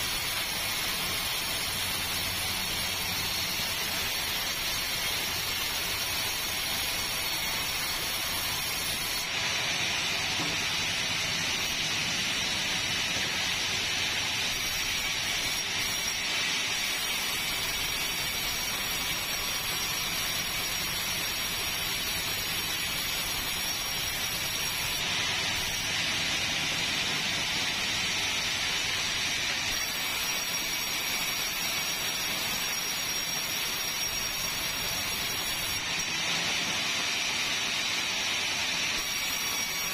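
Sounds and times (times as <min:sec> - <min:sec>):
sawmill machinery hiss: 0:00.0 - 0:39.9.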